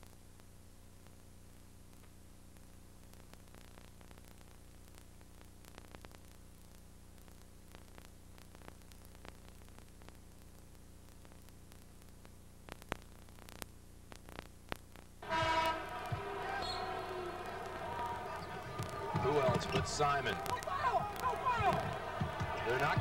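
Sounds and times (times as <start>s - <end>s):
tape hiss: 0.0s - 23.0s
clicks and crackles: 1.9s - 15.2s, 17.2s - 22.6s.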